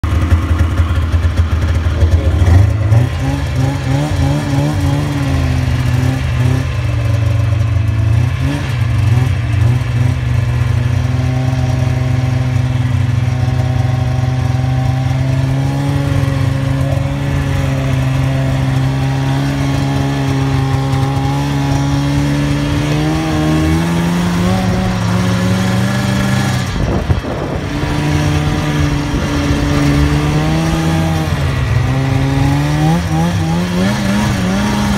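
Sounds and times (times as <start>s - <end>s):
snowmobile engine revving: 0.0s - 34.9s.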